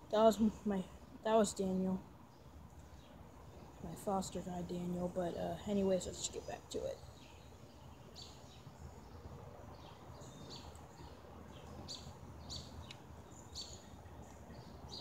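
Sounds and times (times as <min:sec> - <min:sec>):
birds chirping: 0:00.0 - 0:15.0
low outdoor rumble: 0:00.0 - 0:15.0.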